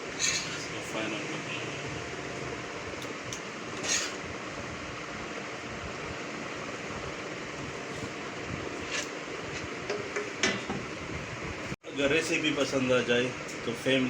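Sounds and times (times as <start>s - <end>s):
steady hiss-like background noise: 0.0s - 14.0s.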